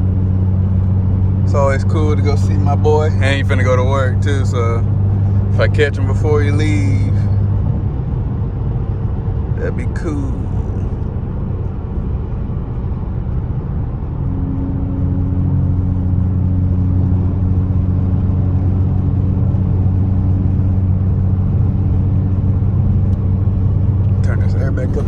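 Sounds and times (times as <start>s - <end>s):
car engine droning while driving: 0.0s - 25.0s.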